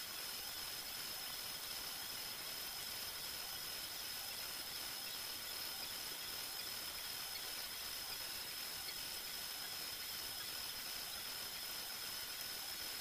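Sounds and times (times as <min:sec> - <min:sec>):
high-pitched whine: 0:00.0 - 0:13.0
steady hiss: 0:00.0 - 0:13.0.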